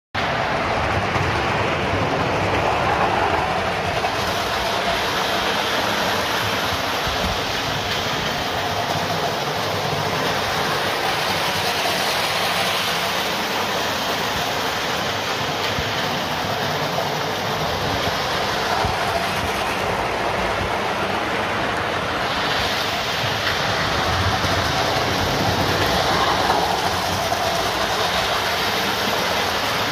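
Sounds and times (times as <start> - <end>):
model train running on rails: 0.2 - 29.9.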